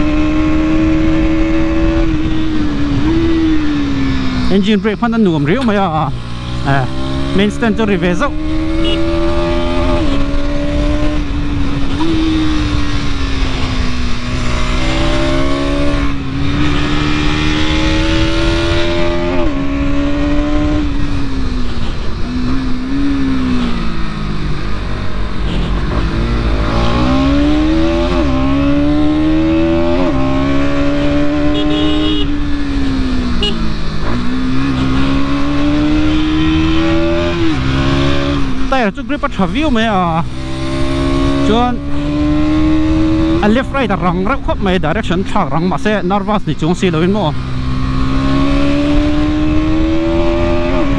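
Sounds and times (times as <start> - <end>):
motorcycle engine revving through gears: 0.0 - 46.0, 46.6 - 50.9.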